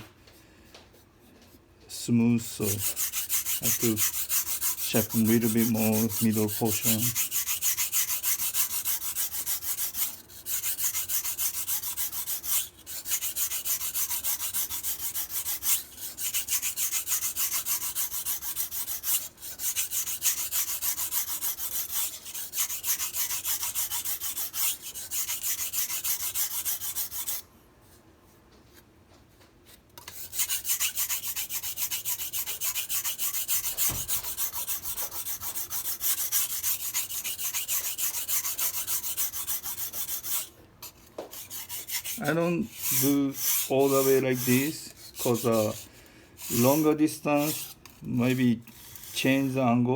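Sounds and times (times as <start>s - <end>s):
knife scraping on whetstone: 2.5s - 27.4s, 29.7s - 49.5s.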